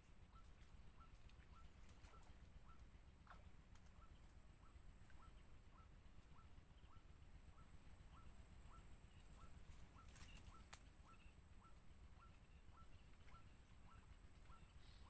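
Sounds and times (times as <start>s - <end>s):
faint bird call: 0.2s - 15.0s.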